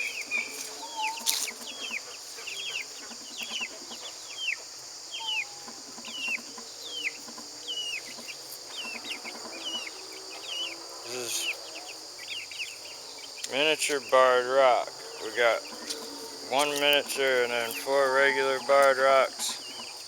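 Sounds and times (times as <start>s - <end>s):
chicks peeping: 0.0s - 20.0s
high buzz of insects: 0.0s - 20.0s.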